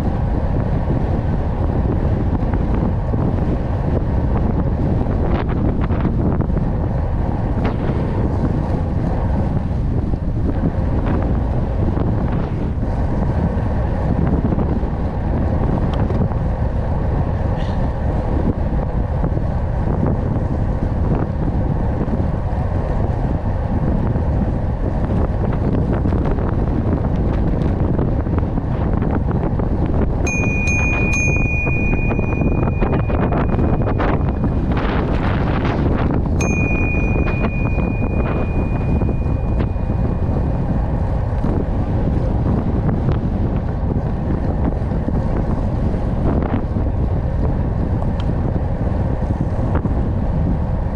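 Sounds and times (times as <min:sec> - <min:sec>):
vehicle road noise: 0:00.0 - 0:50.9
wind on microphone: 0:00.0 - 0:50.9.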